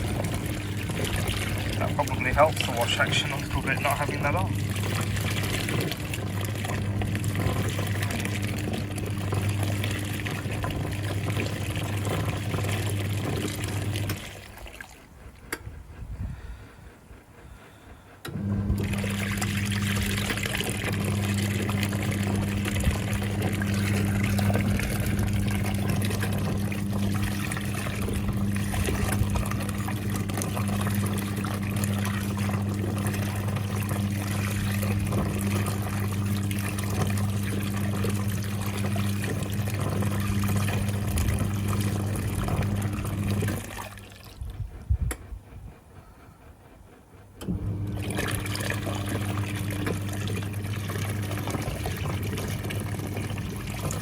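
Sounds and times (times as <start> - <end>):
washing machine motor humming: 0.0 - 54.0
water churning and sloshing: 0.0 - 54.0.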